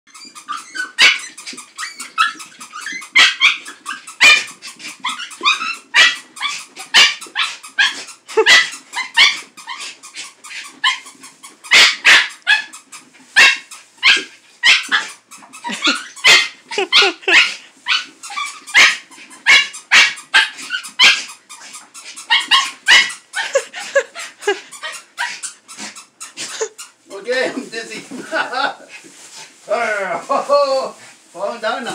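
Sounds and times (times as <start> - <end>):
dog barking and yipping: 0.1 - 26.8
squeaky toy: 0.1 - 27.0.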